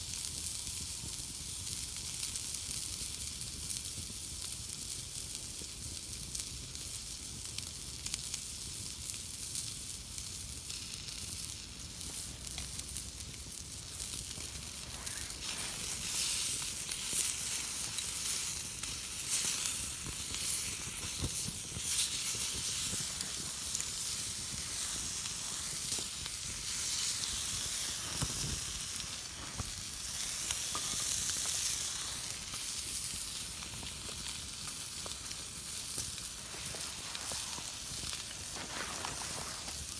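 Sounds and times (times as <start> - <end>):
campfire crackles: 0.0 - 39.9
food sizzling on iron plate: 0.0 - 39.9.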